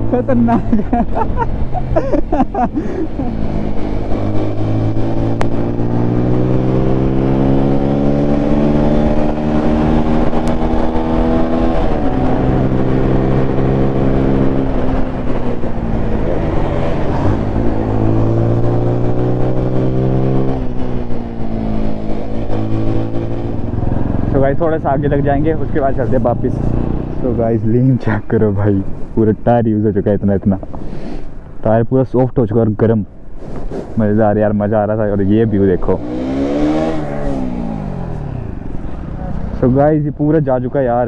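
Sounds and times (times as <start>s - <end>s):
motorcycle engine accelerating: 0.0s - 28.8s, 35.0s - 41.0s
road and wind noise: 0.0s - 41.0s.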